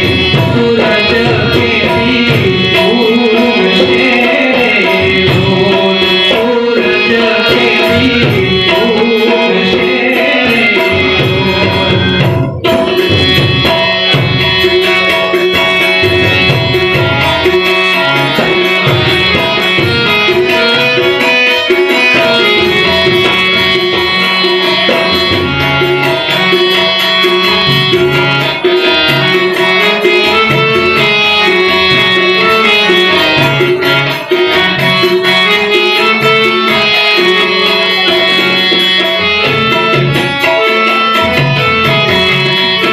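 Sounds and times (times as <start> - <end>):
harmonium melody: 0.0 - 42.9
man singing: 0.0 - 42.9
tabla rhythm: 0.0 - 42.9.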